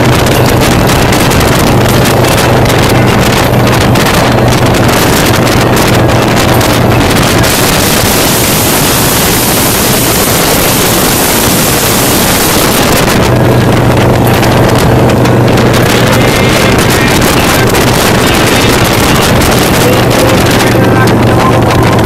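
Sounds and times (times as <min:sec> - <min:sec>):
motorcycle engine cruising: 0:00.0 - 0:22.0
wind noise on microphone: 0:00.0 - 0:22.0.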